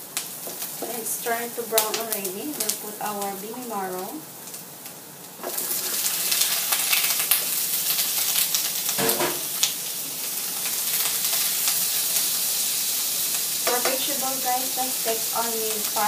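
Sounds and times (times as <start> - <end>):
courgette sizzling in hot oil: 0.0 - 16.0.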